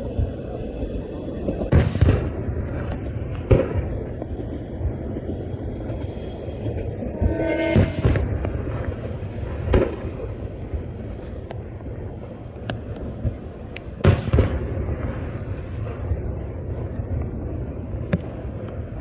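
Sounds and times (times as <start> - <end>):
firework shells booming: 1.6 - 19.0.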